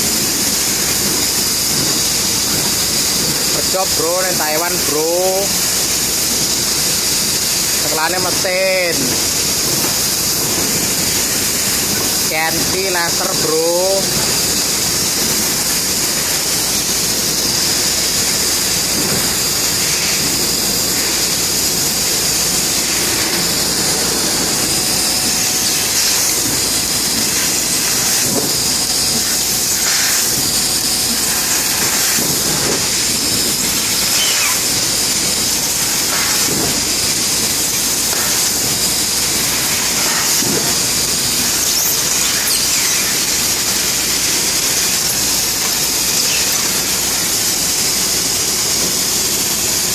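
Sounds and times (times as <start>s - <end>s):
laser cutting machine hissing: 0.0s - 49.9s.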